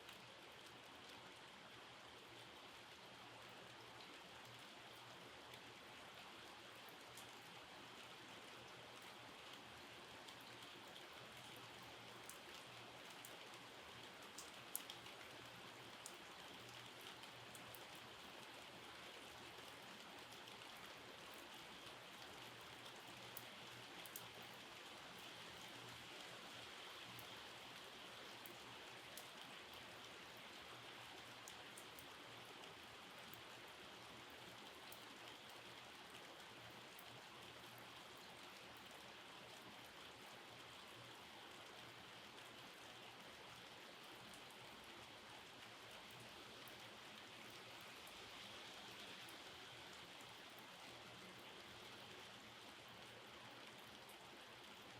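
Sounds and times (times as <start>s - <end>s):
faint steady rain: 0.0s - 54.9s.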